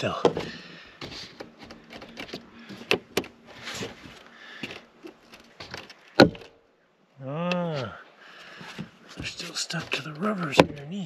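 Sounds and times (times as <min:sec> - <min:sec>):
solar panel knocking and scraping: 0:00.0 - 0:06.6, 0:08.5 - 0:11.0.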